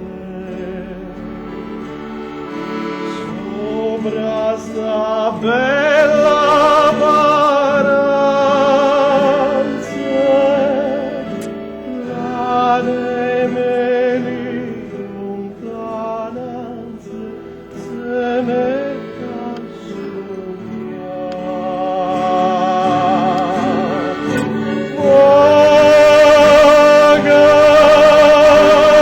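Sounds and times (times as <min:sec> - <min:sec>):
instrumental accompaniment: 0:00.0 - 0:29.0
operatic solo singing: 0:00.0 - 0:29.0.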